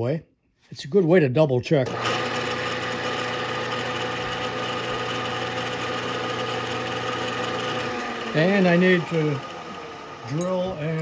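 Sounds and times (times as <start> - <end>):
milling machine spindle humming: 1.9 - 11.0.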